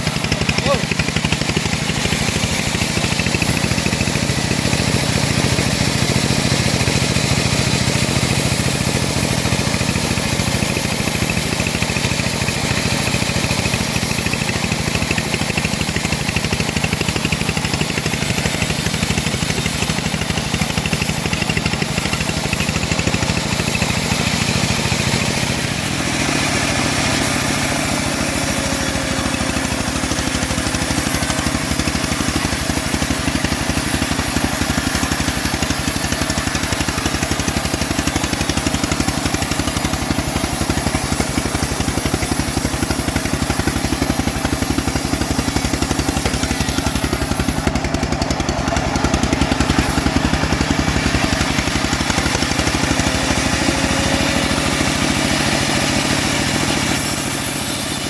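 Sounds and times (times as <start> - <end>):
bandsaw sawing wood: 0.0 - 58.0.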